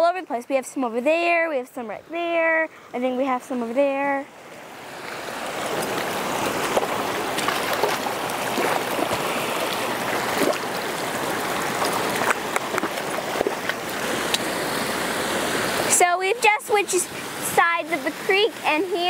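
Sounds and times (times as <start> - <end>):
creek water splashing: 0.0 - 19.0.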